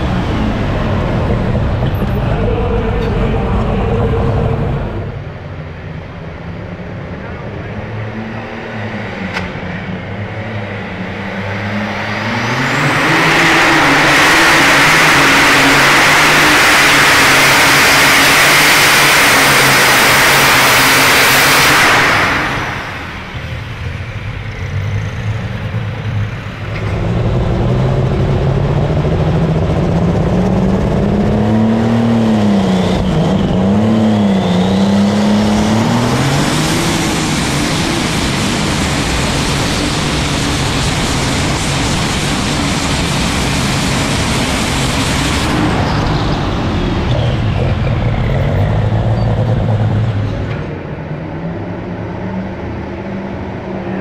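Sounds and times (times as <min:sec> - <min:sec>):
tractor engine roaring at full throttle: 0:00.0 - 0:54.0.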